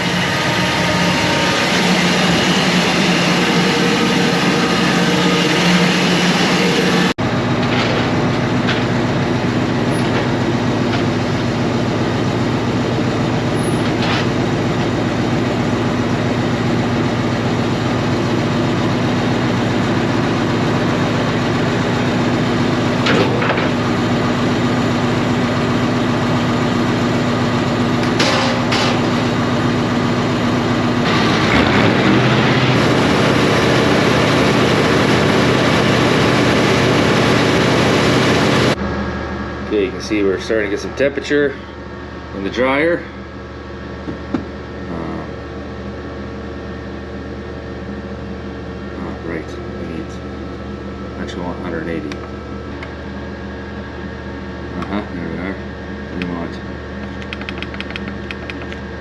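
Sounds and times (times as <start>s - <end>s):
burner and fan droning: 0.0s - 59.0s.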